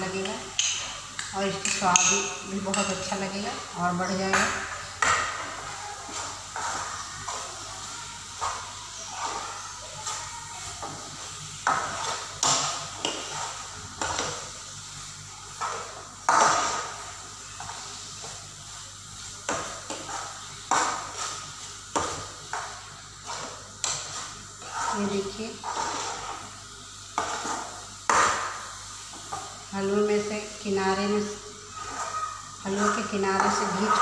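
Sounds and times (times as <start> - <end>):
food frying in a pan: 0.0 - 34.0
metal spatula scraping a pan: 1.6 - 18.4, 19.2 - 28.6, 31.0 - 34.0.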